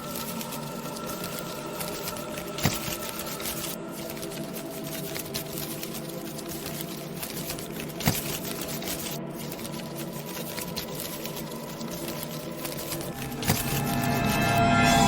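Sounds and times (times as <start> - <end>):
dense crackle of tiny clicks: 0.0 - 14.6.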